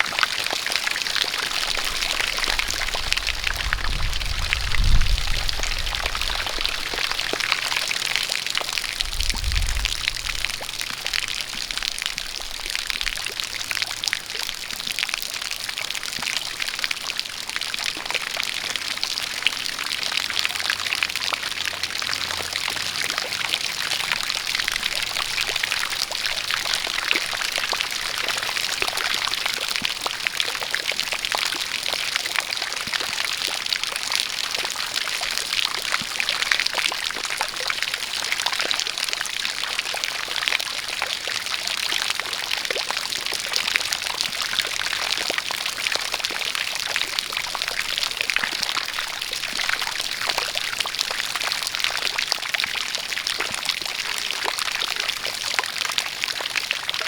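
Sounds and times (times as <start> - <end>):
falling rain: 0.0 - 57.0.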